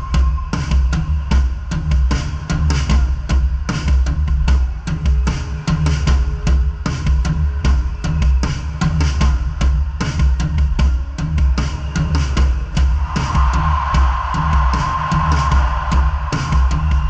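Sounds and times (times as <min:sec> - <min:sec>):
rock drum kit beat: 0:00.0 - 0:17.0.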